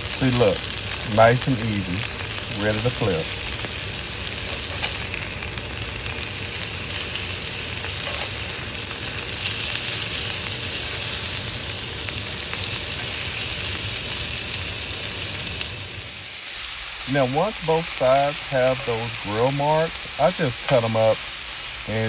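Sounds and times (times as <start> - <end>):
chicken sizzling on grill pan: 0.0 - 22.0.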